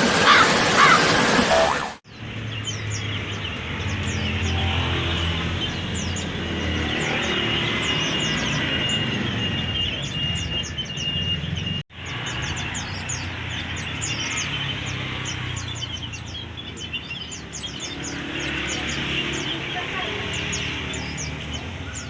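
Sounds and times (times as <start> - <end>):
caged songbirds chirping: 0.0 - 22.0.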